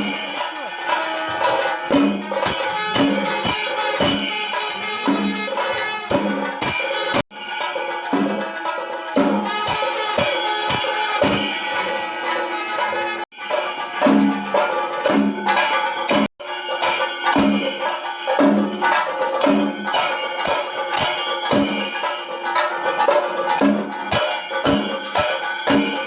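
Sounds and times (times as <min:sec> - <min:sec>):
music with melody and percussion: 0:00.0 - 0:26.0.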